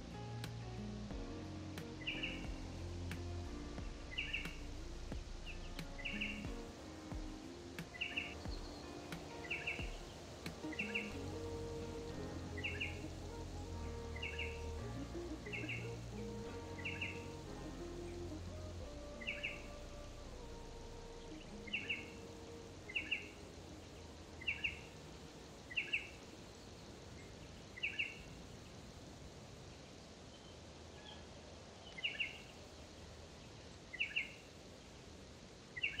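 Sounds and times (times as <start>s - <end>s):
soft held music notes: 0.0s - 28.8s
steady background hiss: 0.0s - 36.0s.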